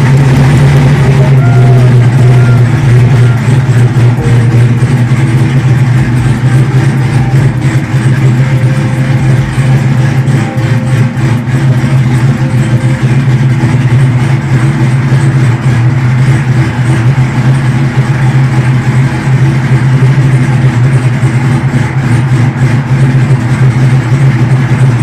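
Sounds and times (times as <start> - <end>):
car engine idling loudly: 0.0 - 25.0.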